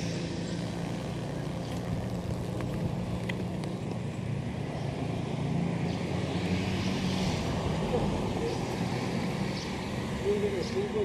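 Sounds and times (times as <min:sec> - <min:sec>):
traffic engine hum: 0:00.0 - 0:11.0
vehicle passing: 0:00.0 - 0:11.0.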